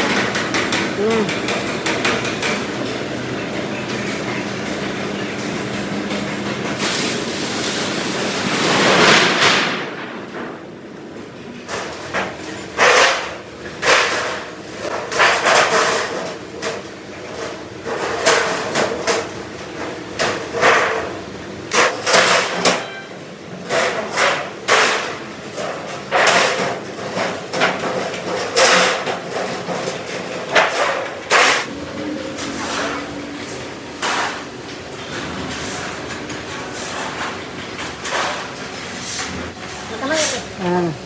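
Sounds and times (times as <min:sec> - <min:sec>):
faint machine hum: 0:00.0 - 0:41.0.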